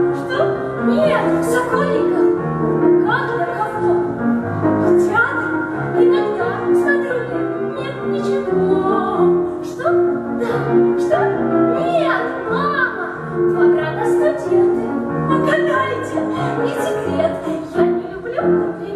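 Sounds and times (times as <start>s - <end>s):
piano accompaniment: 0.0s - 18.9s
woman singing operatic waltz: 0.0s - 18.9s.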